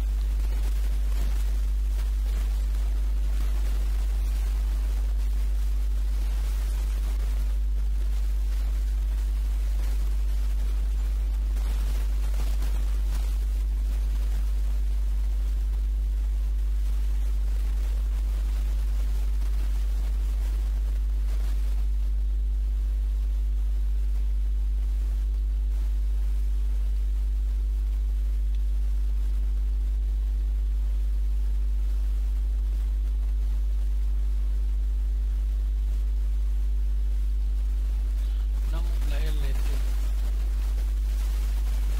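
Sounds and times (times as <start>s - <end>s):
faint hiss: 0.0s - 41.9s
low electrical hum: 0.0s - 41.9s.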